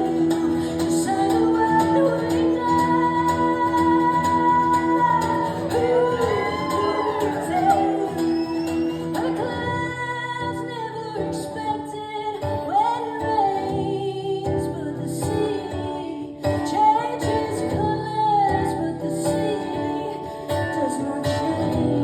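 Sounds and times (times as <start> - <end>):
guitar accompaniment: 0.0 - 22.0
woman singing: 0.0 - 22.0.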